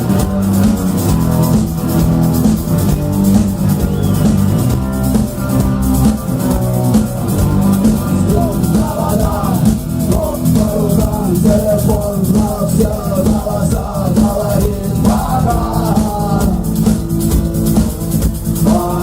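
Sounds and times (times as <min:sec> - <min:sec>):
bass guitar: 0:00.0 - 0:19.0
drum kit beat: 0:00.0 - 0:19.0
electric guitars: 0:00.0 - 0:19.0.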